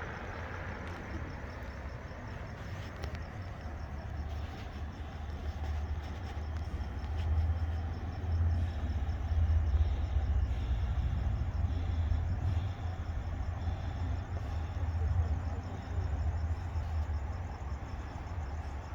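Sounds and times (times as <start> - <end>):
crickets chirping: 0.0 - 18.9
low continuous rumble: 0.0 - 18.9.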